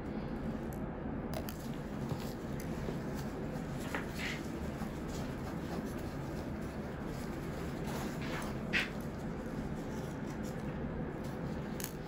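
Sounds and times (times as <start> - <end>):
low room hum: 0.0 - 12.0
soft rustles of gauze: 1.6 - 11.6.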